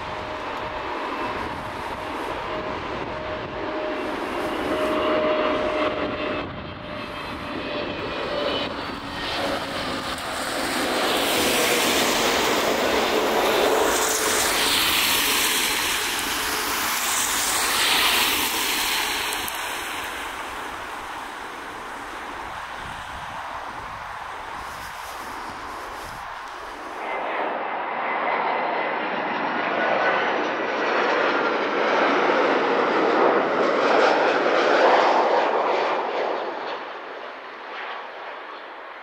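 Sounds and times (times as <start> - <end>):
jet engines whining: 0.0 - 39.0
jet passing overhead: 0.0 - 39.0.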